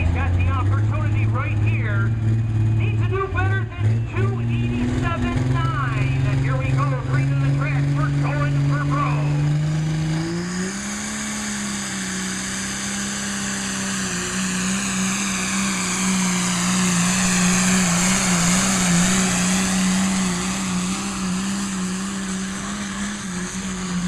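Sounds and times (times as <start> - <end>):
diesel engine running flat out: 0.0 - 24.0
turbo whine: 0.0 - 24.0.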